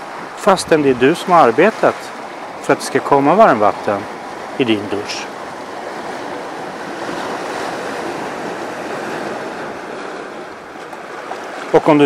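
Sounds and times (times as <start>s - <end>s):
waves breaking on rocky shore: 0.0s - 12.0s.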